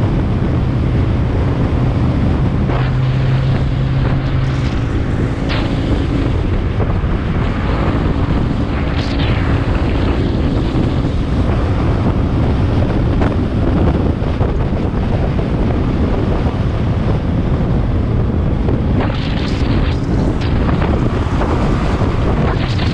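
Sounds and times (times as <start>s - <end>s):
traffic and tyres on road: 0.0s - 22.9s
wind buffeting microphone: 0.0s - 22.9s.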